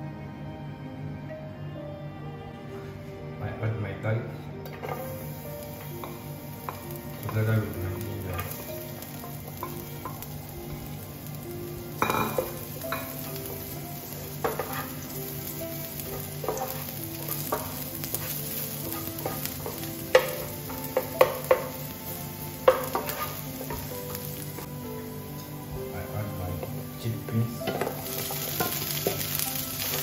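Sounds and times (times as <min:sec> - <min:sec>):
garlic sizzling in oil: 0:04.8 - 0:30.0.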